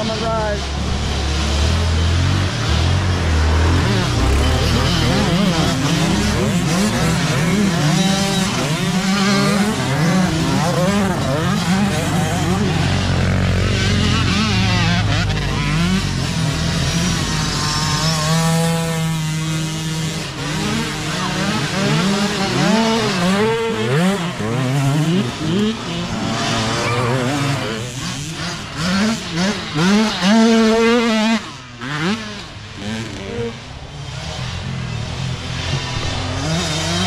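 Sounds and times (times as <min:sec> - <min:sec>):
mini dirt bike engines revving: 0:00.0 - 0:37.0.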